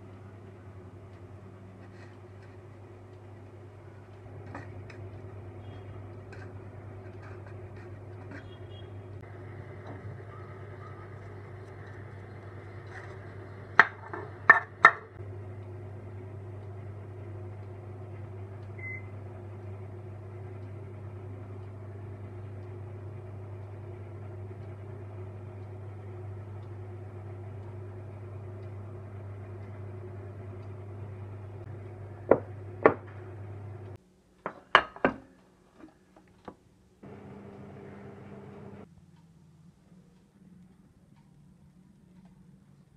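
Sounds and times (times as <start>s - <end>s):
kitchen appliance humming: 0.0s - 34.0s, 37.0s - 38.9s.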